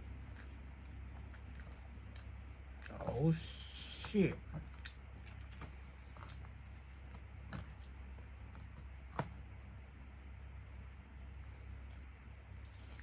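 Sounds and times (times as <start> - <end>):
steady low hum: 0.0 - 13.0
moist chewing: 0.1 - 9.7, 10.7 - 13.0.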